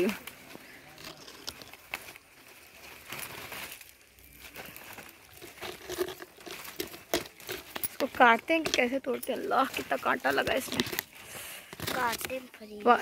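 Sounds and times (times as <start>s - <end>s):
vine leaves rustling and crackling: 0.0s - 13.0s.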